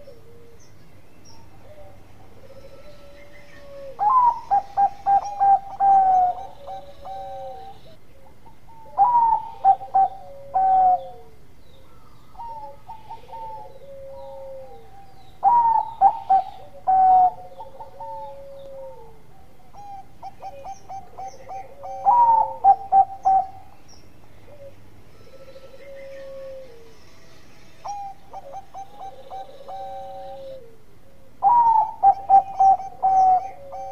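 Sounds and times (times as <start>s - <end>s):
dove cooing song: 0.0s - 33.9s.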